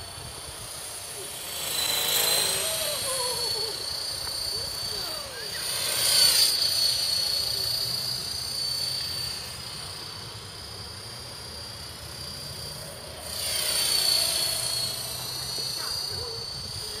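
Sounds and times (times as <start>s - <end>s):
rc helicopter motor and rotor whine: 0.0s - 17.0s.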